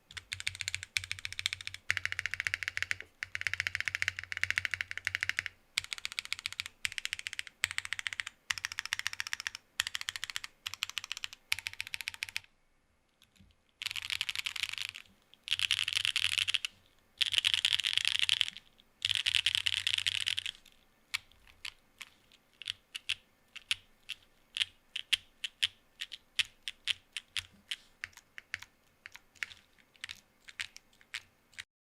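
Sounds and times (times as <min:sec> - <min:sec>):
mechanical keyboard typing: 0:00.1 - 0:12.4, 0:13.8 - 0:31.7.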